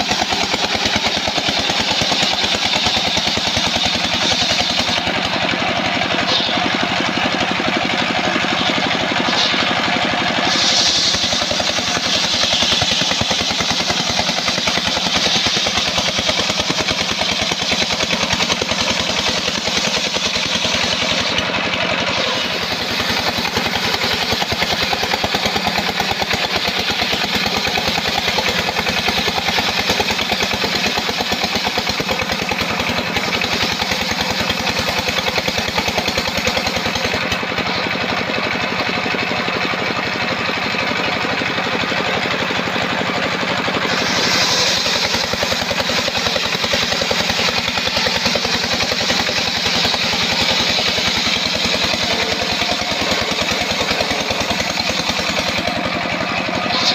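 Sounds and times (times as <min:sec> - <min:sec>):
saw blade rasping through wood: 0:00.0 - 0:37.8, 0:43.7 - 0:56.9
sawmill engine running: 0:00.0 - 0:56.9.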